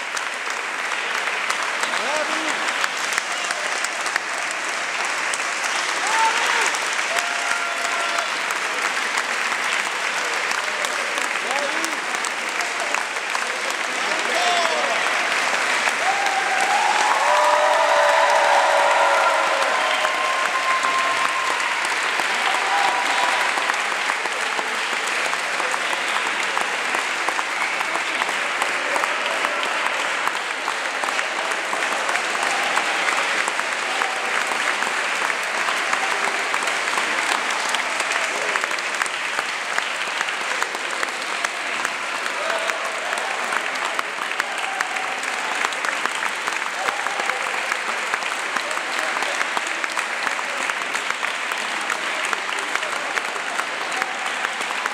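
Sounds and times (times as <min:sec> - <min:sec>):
crowd applauding: 0:00.0 - 0:54.9.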